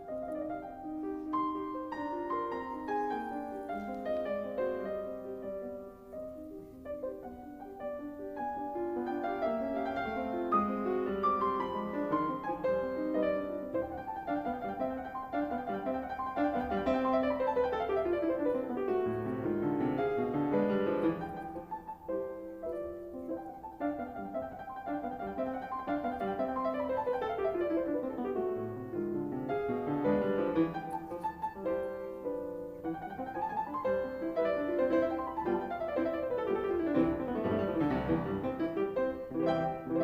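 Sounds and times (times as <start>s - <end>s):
solo piano melody: 0.0s - 40.0s.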